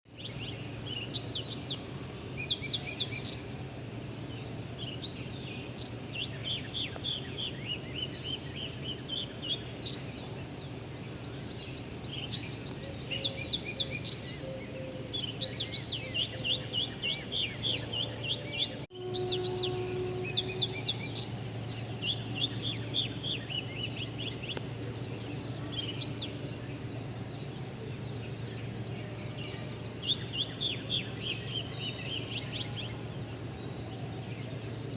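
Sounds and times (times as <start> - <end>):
small birds chirping: 0.1 - 34.9
steady low hum: 0.1 - 34.9.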